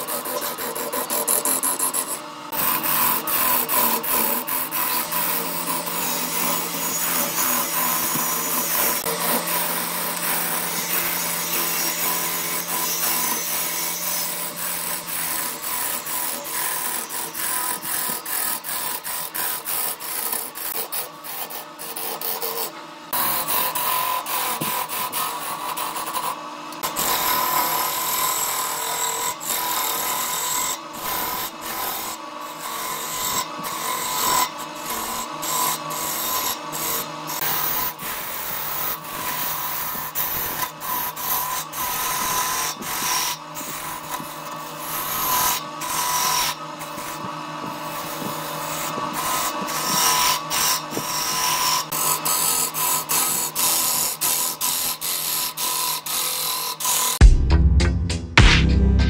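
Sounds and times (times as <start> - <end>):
lathe humming: 0.0 - 57.1
turning tool scraping wood: 0.0 - 57.2.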